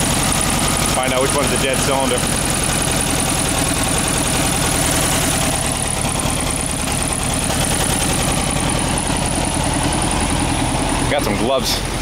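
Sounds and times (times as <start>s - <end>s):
car engine idling with a miss: 0.0s - 12.0s.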